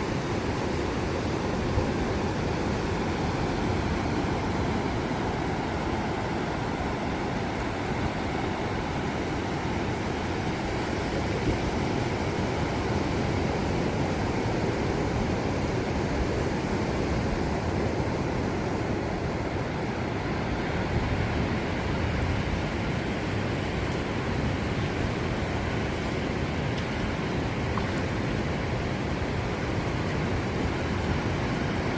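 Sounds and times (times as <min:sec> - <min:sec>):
waves breaking: 0:00.0 - 0:31.9.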